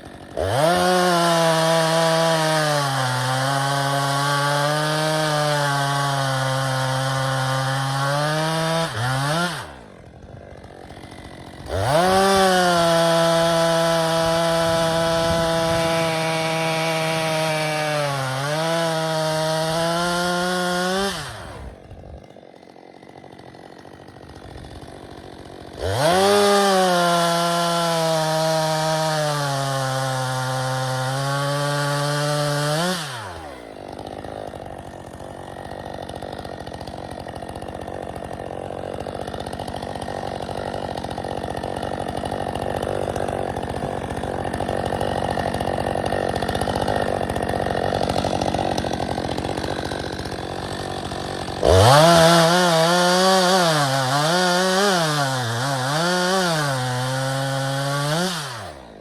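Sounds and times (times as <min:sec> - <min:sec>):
chainsaw cutting at full throttle: 0:00.0 - 0:59.0.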